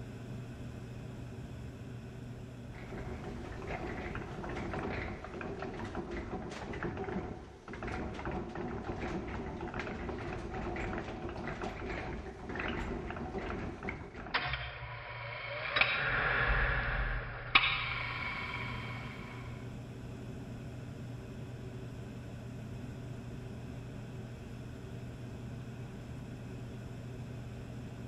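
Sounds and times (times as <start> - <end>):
steady low hum with hiss: 0.0 - 28.0.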